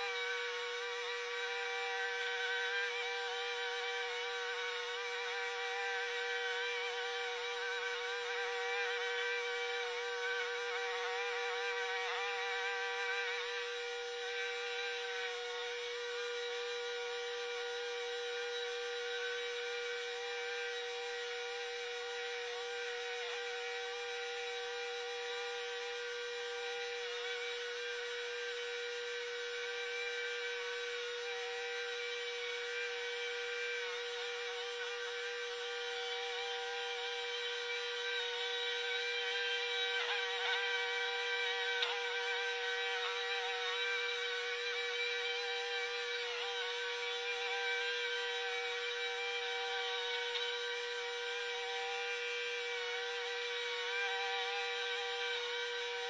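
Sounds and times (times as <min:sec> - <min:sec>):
sped-up lawn mower engine buzzing: 0:00.0 - 0:56.0
steady high hum: 0:00.0 - 0:56.0.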